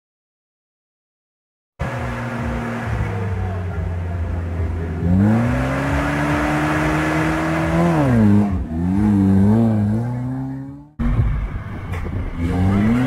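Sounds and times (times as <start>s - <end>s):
car engine revving: 1.8s - 13.0s.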